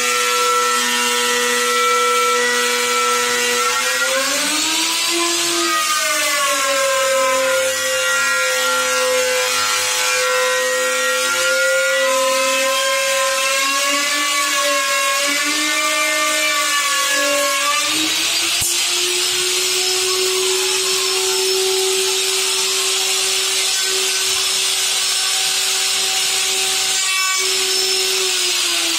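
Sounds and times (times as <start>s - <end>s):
power tool motor whine: 0.0s - 28.9s.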